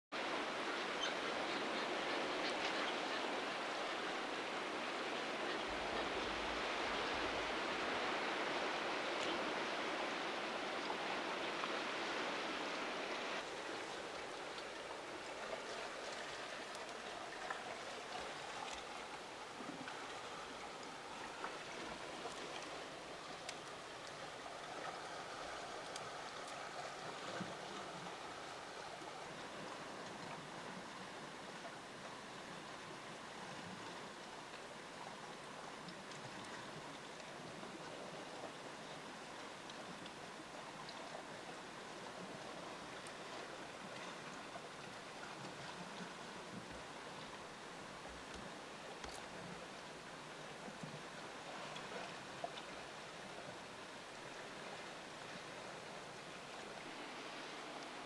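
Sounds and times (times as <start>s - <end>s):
sea surf: 0.2s - 35.2s, 35.8s - 58.0s.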